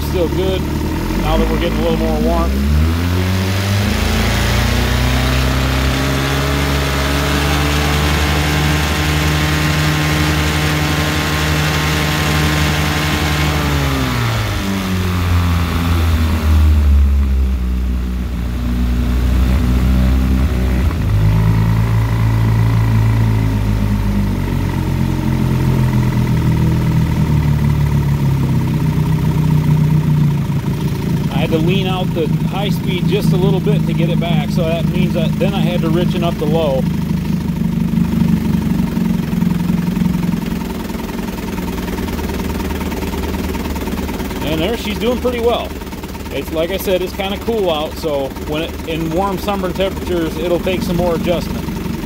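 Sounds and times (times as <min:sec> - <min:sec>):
outboard motor revving: 0:00.0 - 0:52.0.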